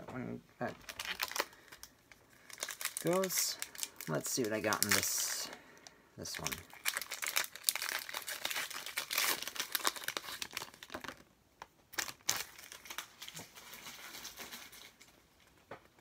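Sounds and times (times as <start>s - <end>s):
foil wrapper crinkling and tearing: 0.7s - 5.6s, 6.3s - 11.3s, 11.9s - 15.2s.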